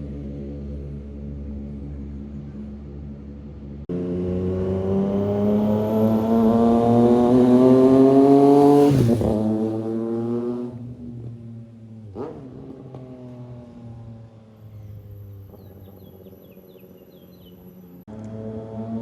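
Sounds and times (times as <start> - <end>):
motorcycle engine accelerating: 0.1 - 19.0.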